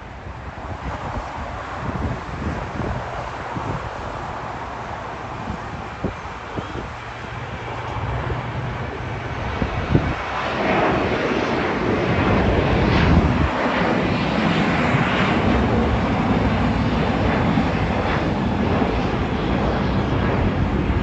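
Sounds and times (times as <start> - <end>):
jet airliner engine rumble: 0.0 - 21.0.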